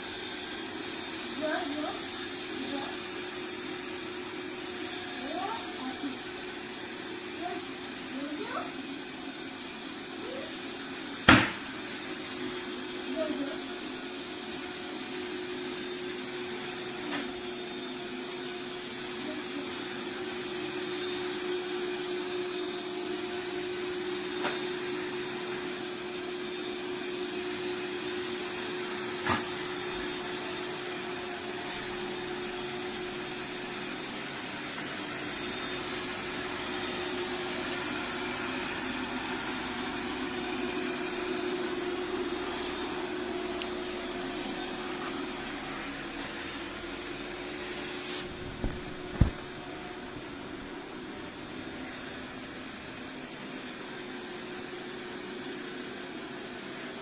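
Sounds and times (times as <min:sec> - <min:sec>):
robot vacuum whirring: 0:00.0 - 0:56.4.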